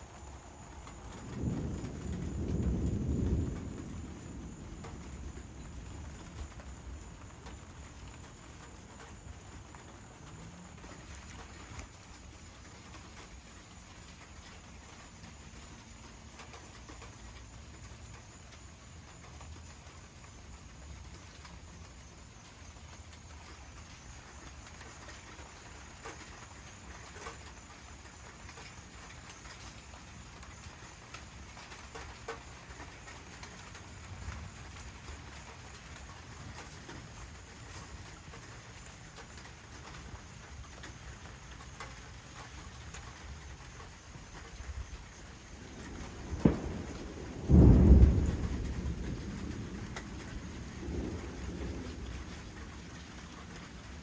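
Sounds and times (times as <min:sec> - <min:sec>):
raindrops clicking on surfaces: 0:00.0 - 0:54.0
steady rain falling: 0:00.0 - 0:54.0.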